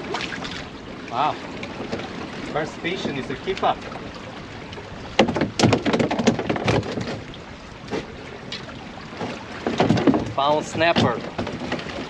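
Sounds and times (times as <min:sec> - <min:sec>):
knocks and rustles on a kayak: 0:00.0 - 0:12.0
water washing: 0:00.0 - 0:12.0
wind: 0:00.0 - 0:12.0.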